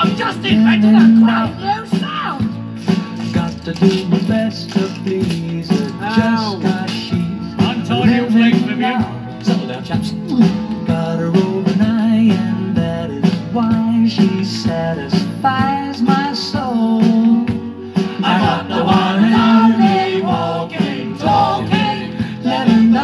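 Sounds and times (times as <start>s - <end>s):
pop-rock song through speakers: 0.0s - 23.0s.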